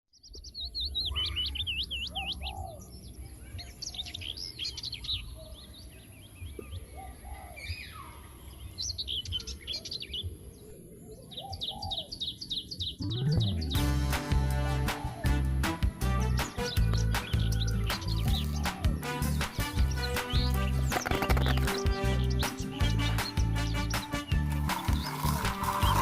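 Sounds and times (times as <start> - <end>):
birds chirping and singing: 0.1 - 26.0.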